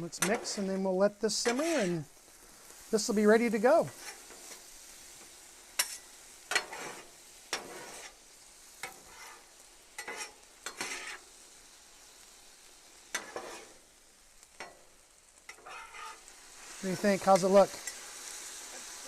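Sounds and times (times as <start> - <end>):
utensil scraping griddle: 0.0 - 11.4, 13.0 - 19.0
chicken sizzling on griddle: 0.0 - 19.0.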